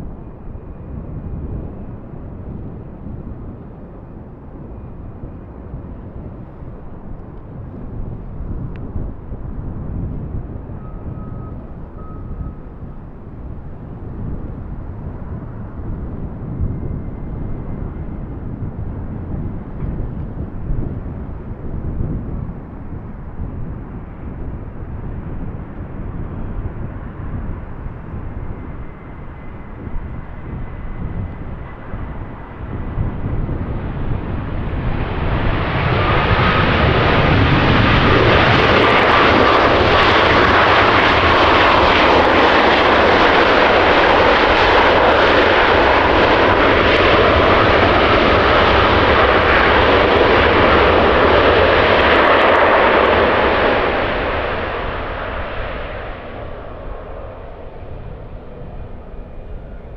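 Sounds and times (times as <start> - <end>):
jet engine roar: 0.0 - 59.9
low wind rumble: 0.0 - 59.9.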